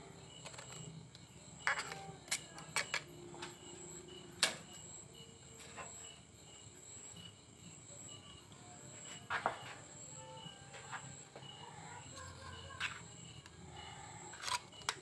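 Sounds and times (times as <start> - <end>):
faint cricket chirping: 0.0 - 15.0.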